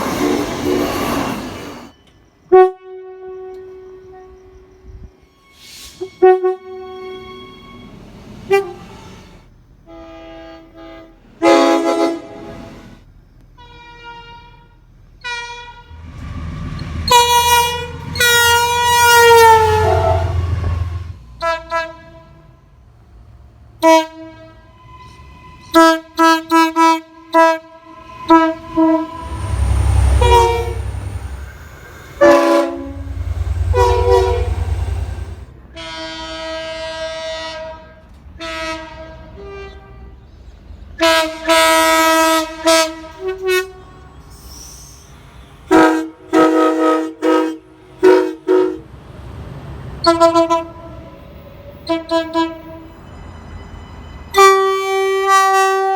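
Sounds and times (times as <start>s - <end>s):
low train rumble: 0.0s - 55.9s
train horn blasts: 2.4s - 7.9s, 8.5s - 9.1s, 9.8s - 12.9s, 13.5s - 22.8s, 23.8s - 40.3s, 41.0s - 44.2s, 45.7s - 48.9s, 50.0s - 51.1s, 51.8s - 53.0s, 54.3s - 55.9s.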